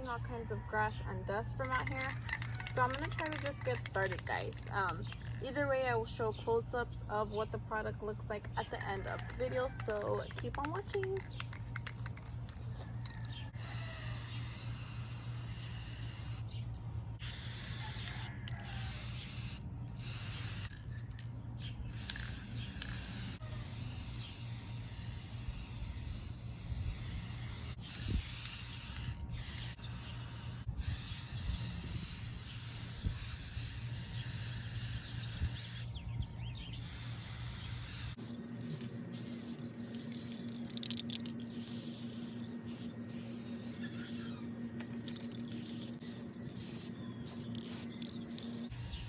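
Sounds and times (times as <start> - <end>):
spray paint can hissing: 1.5 - 5.9, 8.6 - 16.5, 17.2 - 35.9, 36.7 - 49.0.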